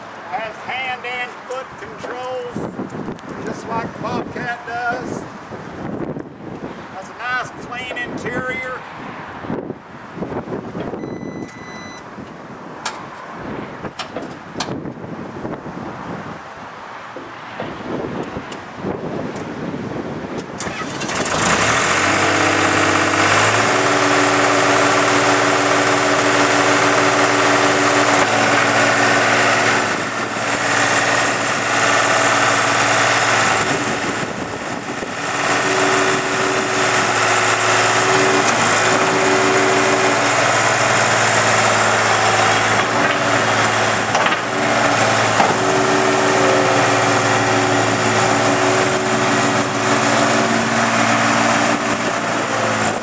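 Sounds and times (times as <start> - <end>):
diesel engine starting and running: 0.0 - 53.0.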